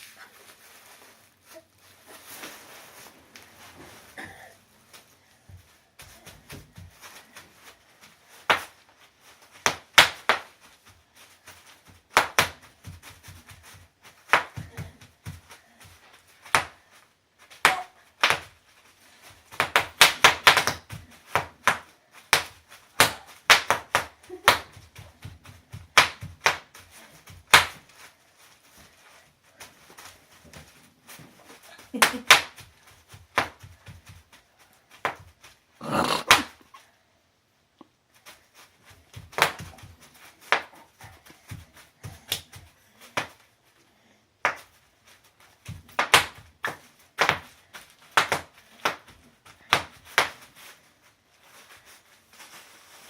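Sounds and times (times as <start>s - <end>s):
bubble wrap popping underfoot: 0.0s - 36.9s, 38.1s - 43.7s, 44.4s - 53.0s.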